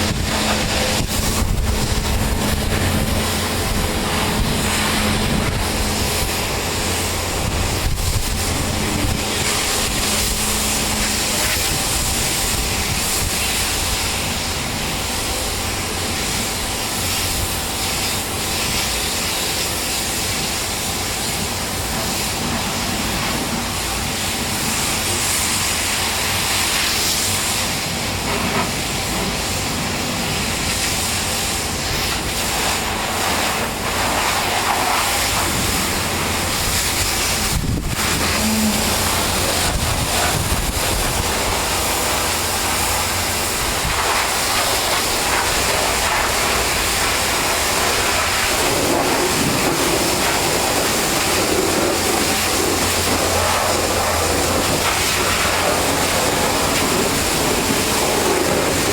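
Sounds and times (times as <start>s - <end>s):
pressure washer motor humming: 0.0s - 58.9s
water jet hissing: 0.0s - 58.9s.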